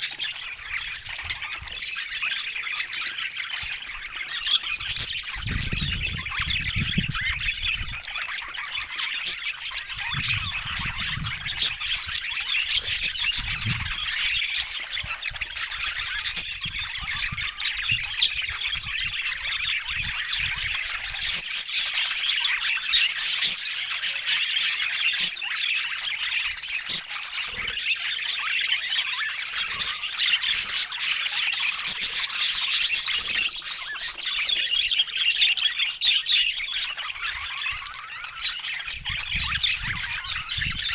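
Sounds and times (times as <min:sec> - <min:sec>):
budgerigars chattering: 0:00.0 - 0:40.9.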